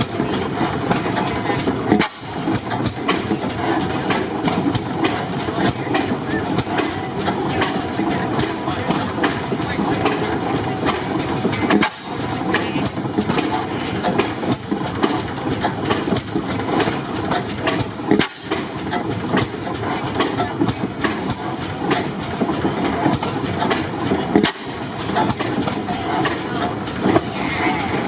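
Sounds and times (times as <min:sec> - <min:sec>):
stationary gas engines running: 0:00.0 - 0:28.0.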